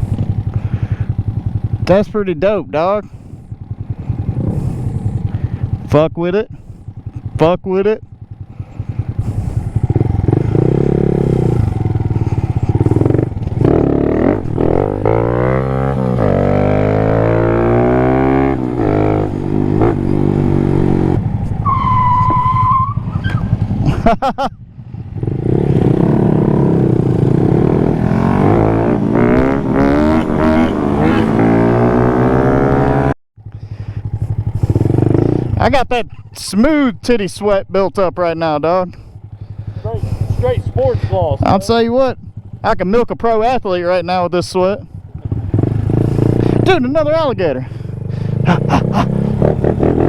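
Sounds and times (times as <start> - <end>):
motorcycle engine revving: 0.0 - 35.9, 36.6 - 43.6, 44.6 - 50.0.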